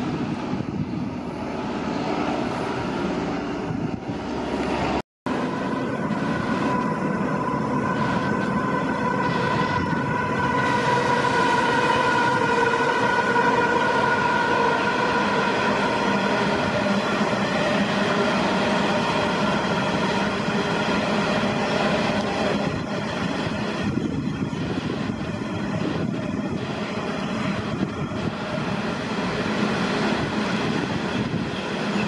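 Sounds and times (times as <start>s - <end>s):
diesel locomotive engines rumbling: 0.0s - 32.0s
locomotive whine: 0.0s - 32.0s.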